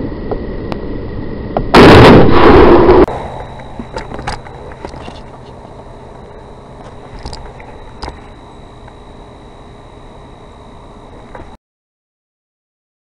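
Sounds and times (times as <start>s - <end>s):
background hiss and rumble: 0.0s - 11.6s
thin high-pitched whine: 0.0s - 11.6s.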